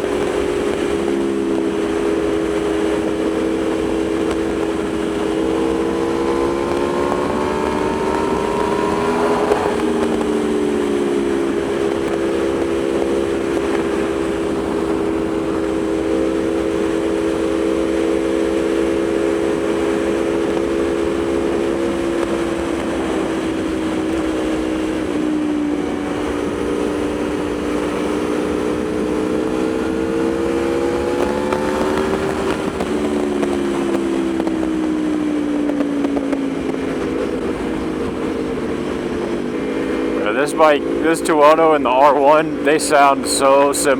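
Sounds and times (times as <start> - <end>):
wind noise: 0.0 - 41.1
motorcycle engine accelerating: 0.0 - 43.9.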